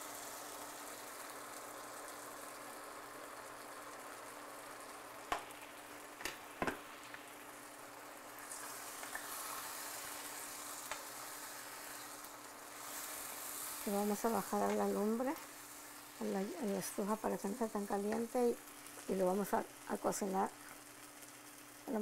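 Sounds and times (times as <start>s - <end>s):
eggs sizzling in a pan: 0.0s - 22.0s.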